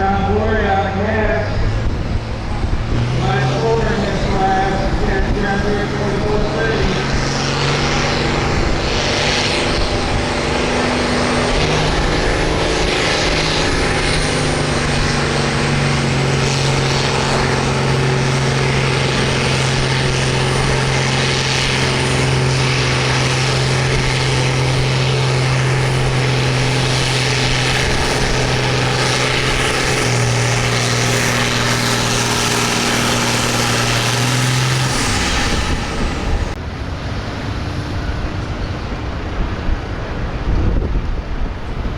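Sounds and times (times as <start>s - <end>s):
tractor engine at high revs: 0.0s - 36.6s.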